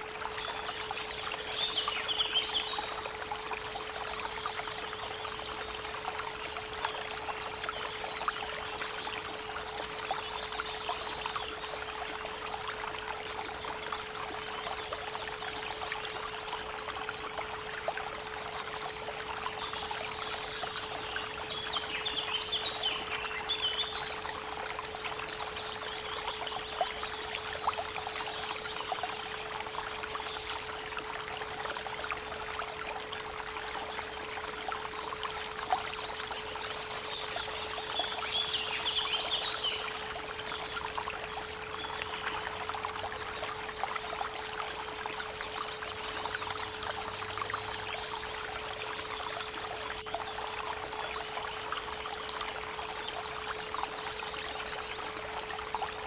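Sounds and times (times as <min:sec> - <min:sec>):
songbirds chirping and trilling: 0:00.0 - 0:12.2, 0:13.1 - 0:31.9, 0:33.2 - 0:56.0
constant pure tone: 0:00.0 - 0:56.0
creek water running: 0:00.0 - 0:56.0.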